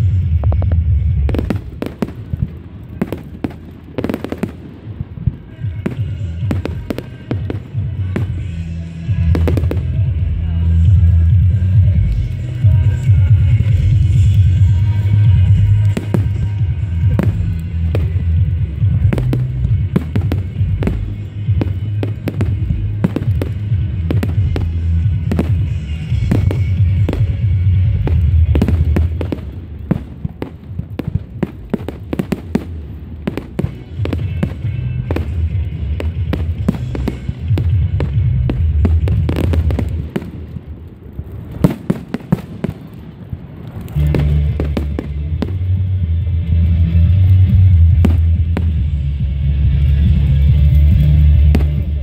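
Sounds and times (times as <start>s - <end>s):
music with heavy bass: 0.0s - 4.6s, 5.2s - 30.0s, 31.0s - 40.3s, 43.9s - 52.0s
fireworks bangs and crackles: 0.0s - 52.0s.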